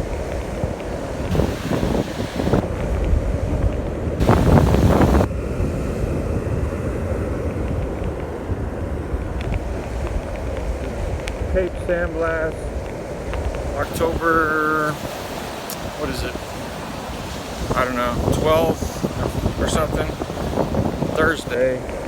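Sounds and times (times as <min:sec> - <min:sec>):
surf on beach: 0:00.0 - 0:22.0
wind buffeting microphone: 0:00.0 - 0:22.0.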